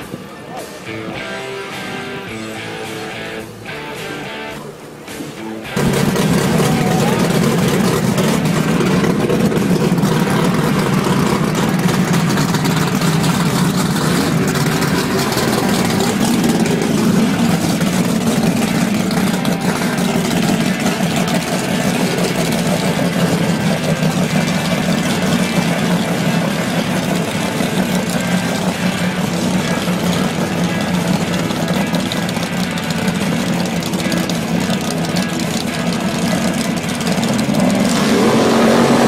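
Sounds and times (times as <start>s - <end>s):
race car engines idling: 0.0s - 39.0s.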